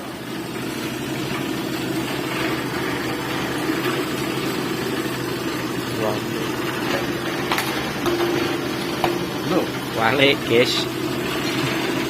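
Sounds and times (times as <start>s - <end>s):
machine droning: 0.0s - 12.0s.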